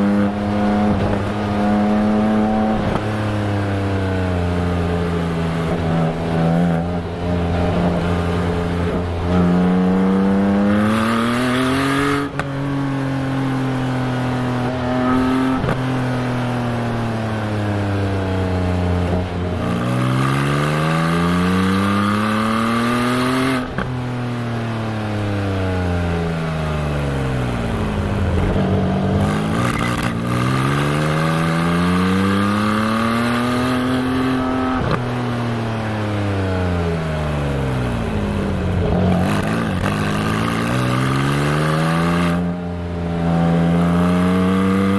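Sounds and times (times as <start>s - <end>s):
car engine accelerating and shifting: 0.0s - 44.9s.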